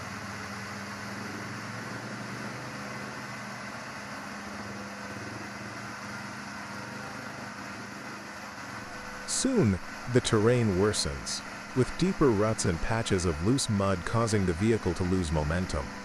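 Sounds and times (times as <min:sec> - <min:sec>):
vehicle engine running under load: 0:00.0 - 0:16.0.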